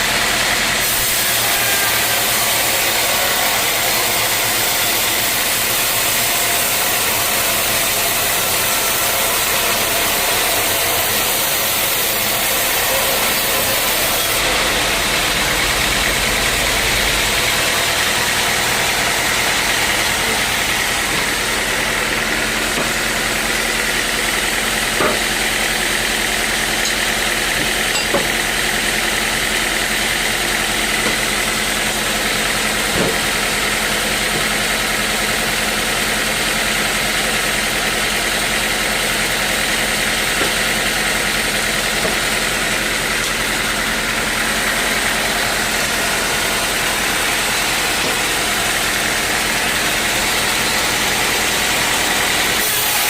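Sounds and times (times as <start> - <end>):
sawmill machinery whine: 0.0 - 53.0.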